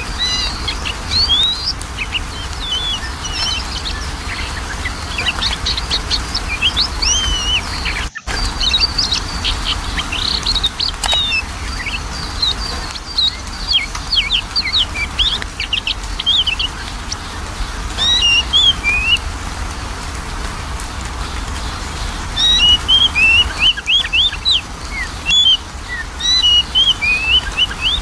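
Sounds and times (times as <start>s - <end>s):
bird whistling and chirping: 0.0s - 17.2s, 18.0s - 19.2s, 22.4s - 28.0s.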